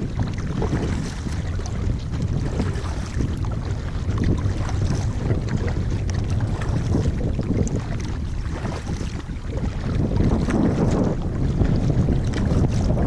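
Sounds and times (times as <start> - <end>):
water splashing against kayak: 0.0 - 13.0
wind buffeting microphone: 0.0 - 13.0.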